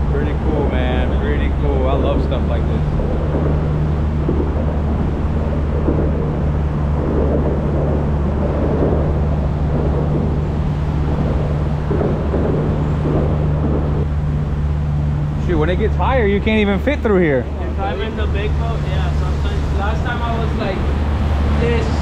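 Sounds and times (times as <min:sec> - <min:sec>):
boat motor humming: 0:00.0 - 0:22.0
wind and water rushing: 0:00.0 - 0:22.0.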